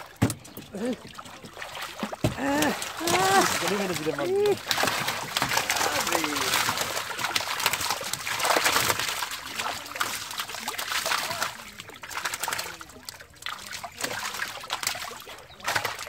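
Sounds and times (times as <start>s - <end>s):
fish splashing in water: 0.0s - 16.0s.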